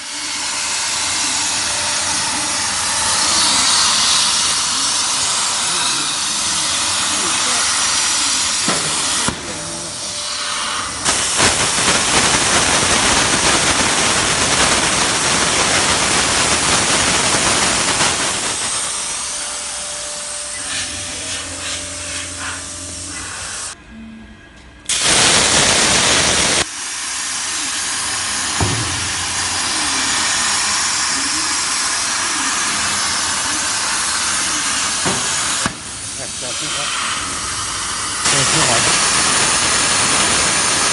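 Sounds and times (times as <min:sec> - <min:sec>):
plasma cutter torch hissing: 0:00.0 - 0:23.8, 0:24.9 - 0:40.9.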